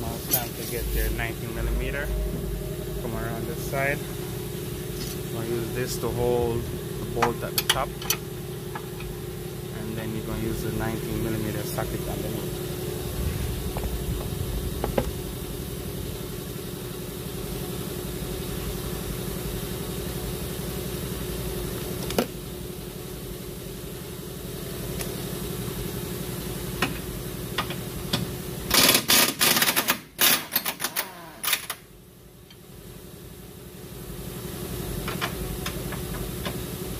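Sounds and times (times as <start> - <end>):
low pulsing machine hum: 0.0 - 28.9, 31.0 - 36.9.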